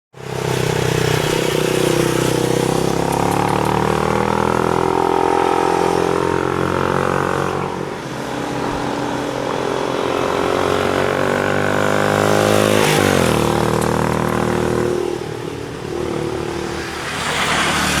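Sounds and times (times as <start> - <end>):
motorcycle engine revving: 0.2 - 18.0.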